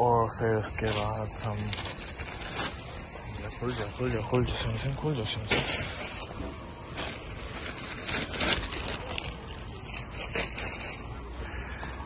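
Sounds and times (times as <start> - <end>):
plastic bag rustling: 0.5 - 11.3.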